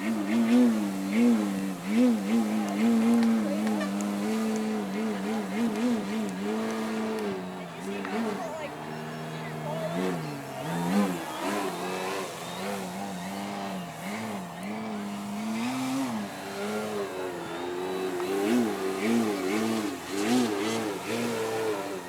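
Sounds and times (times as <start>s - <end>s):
model airplane motor and propeller: 0.0s - 22.0s.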